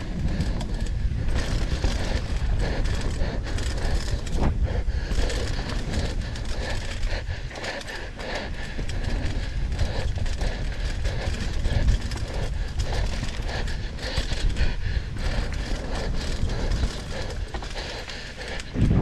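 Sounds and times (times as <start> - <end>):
bike rattling and knocking: 0.0 - 19.0
bike tyres rumbling on dirt: 0.0 - 19.0.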